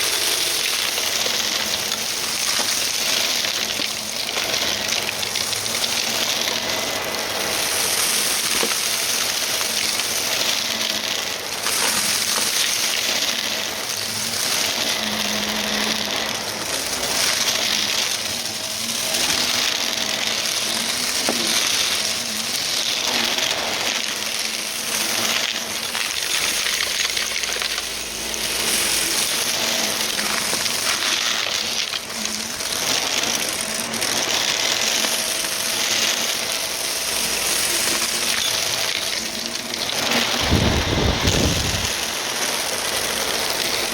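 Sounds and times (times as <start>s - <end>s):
vacuum cleaner running: 0.0s - 43.9s
vacuum crunching dry debris: 0.0s - 43.9s.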